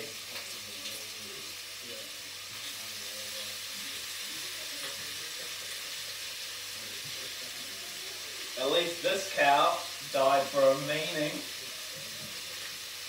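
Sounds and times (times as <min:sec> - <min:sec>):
steak sizzling in frying pan: 0:00.0 - 0:13.0.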